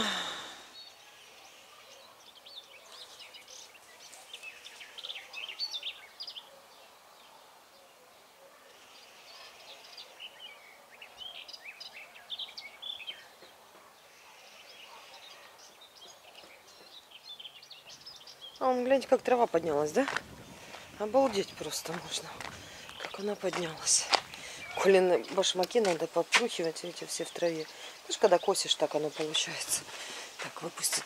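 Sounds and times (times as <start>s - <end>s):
faint outdoor hiss: 0.0s - 31.0s
songbirds chirping: 0.0s - 31.0s.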